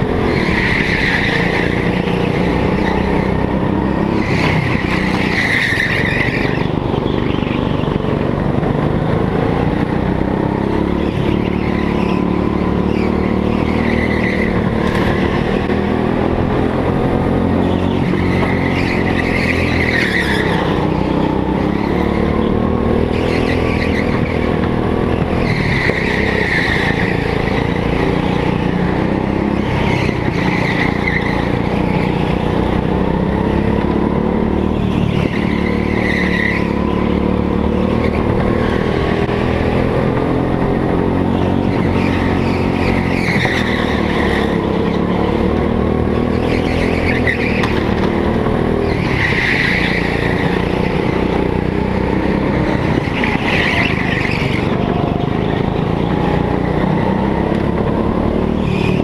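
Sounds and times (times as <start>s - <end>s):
tyre squeals: 0.0s - 8.1s, 10.8s - 16.4s, 17.2s - 59.0s
go-kart engine: 0.0s - 59.0s.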